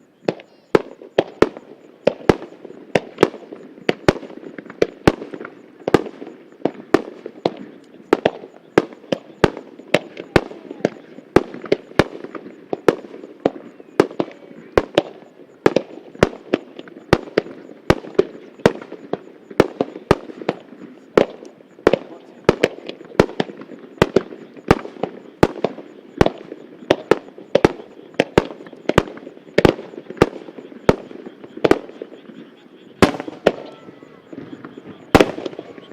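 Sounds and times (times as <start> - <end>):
fireworks rumble and crackle: 0.0 - 35.9
firework shells bursting: 0.2 - 35.9.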